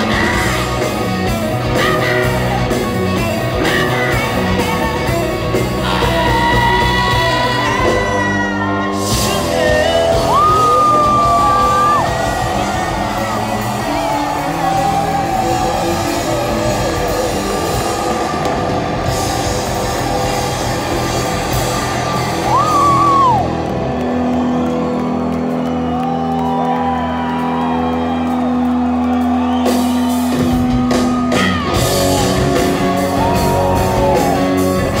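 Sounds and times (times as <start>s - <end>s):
rock band playing live: 0.0s - 35.0s.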